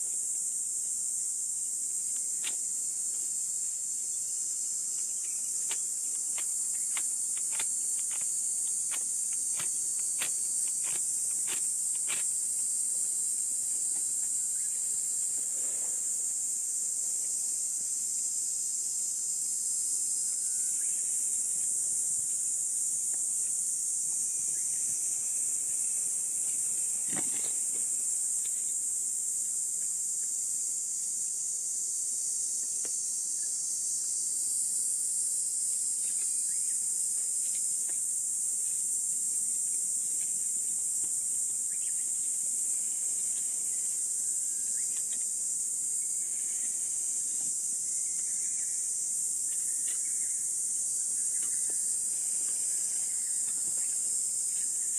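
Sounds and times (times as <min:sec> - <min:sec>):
insects chirping: 0:00.0 - 0:54.9.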